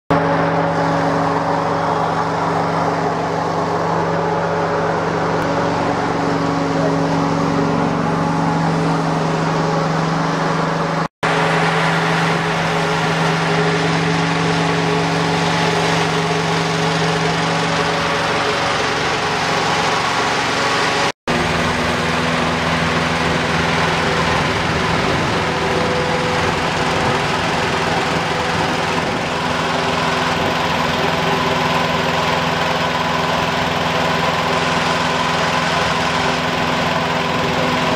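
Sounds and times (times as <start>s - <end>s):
fan rushing air: 0.1s - 37.9s
small petrol engine drone: 0.1s - 37.9s.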